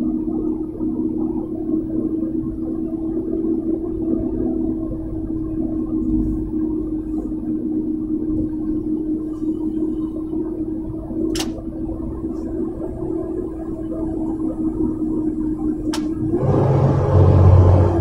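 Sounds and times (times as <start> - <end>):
road rumble: 0.0 - 18.0
vehicle engine drone: 0.0 - 18.0.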